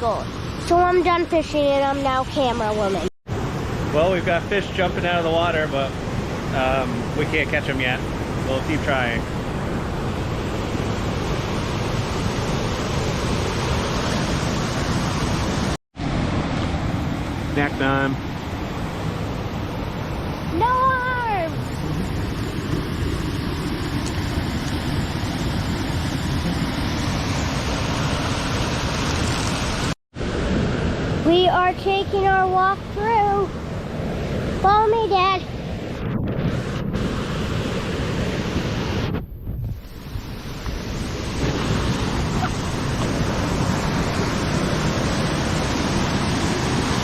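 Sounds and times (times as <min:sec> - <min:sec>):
waterfall and stream rushing: 0:00.0 - 0:31.6, 0:33.3 - 0:39.2, 0:39.9 - 0:47.0.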